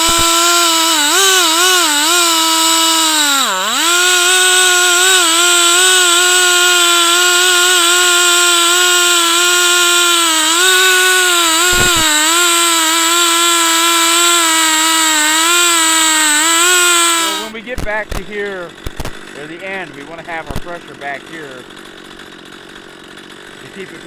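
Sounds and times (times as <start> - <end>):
chainsaw cutting through log: 0.0 - 24.0.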